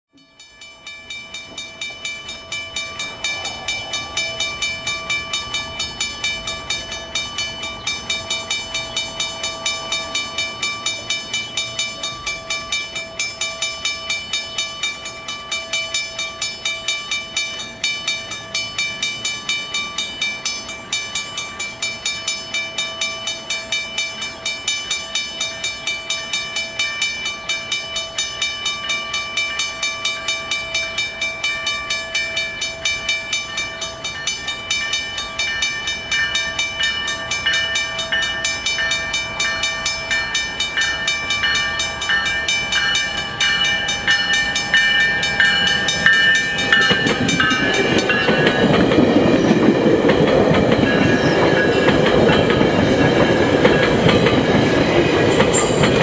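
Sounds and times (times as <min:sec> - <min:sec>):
railway crossing bell ringing: 0:00.1 - 0:56.0
faint train rumble: 0:00.3 - 0:56.0.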